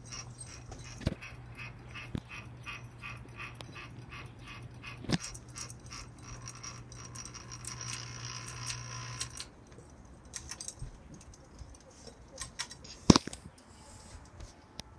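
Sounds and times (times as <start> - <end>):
ceiling fan rattling: 0.0 - 13.7
metallic clicks and jingles: 0.0 - 13.7
fan motor hum: 0.0 - 14.4.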